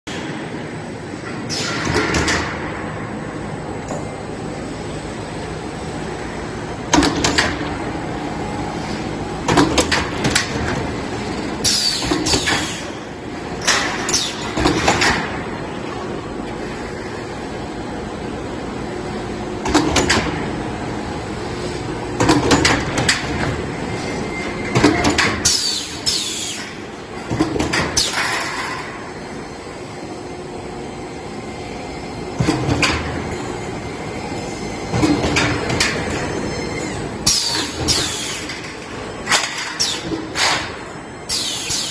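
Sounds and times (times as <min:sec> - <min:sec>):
roll forming machine running: 0:00.1 - 0:41.9.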